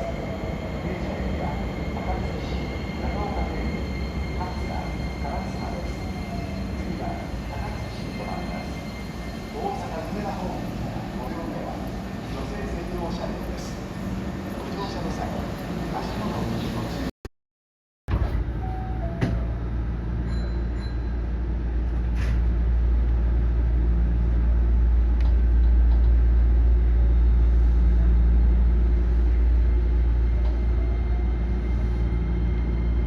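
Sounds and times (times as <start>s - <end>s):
electric train rumbling: 0.0s - 17.1s, 18.1s - 33.0s.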